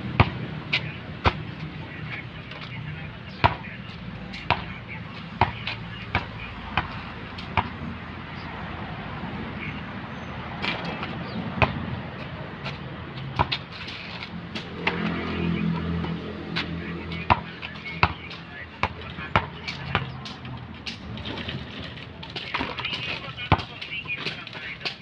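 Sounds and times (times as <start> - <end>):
basketball bouncing on pavement: 0.0 - 25.0.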